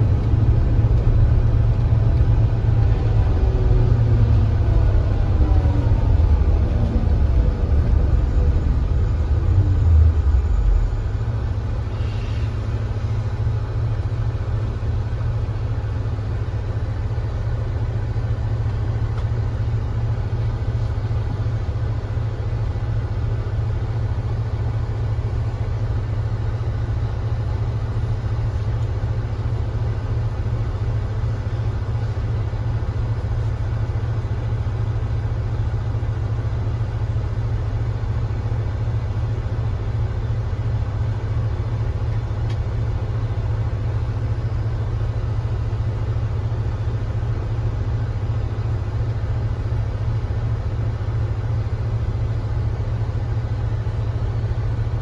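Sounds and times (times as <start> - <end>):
coach engine running: 0.0 - 55.0.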